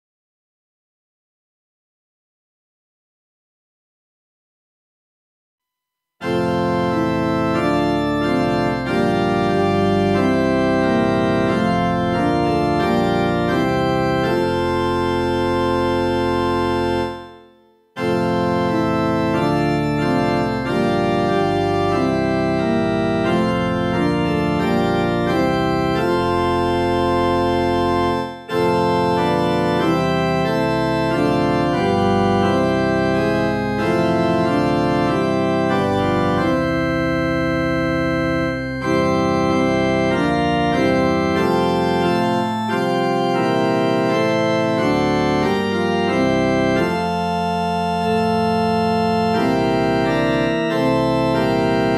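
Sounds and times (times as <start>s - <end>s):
organ music sustained chords: 6.2s - 17.4s, 18.0s - 51.9s.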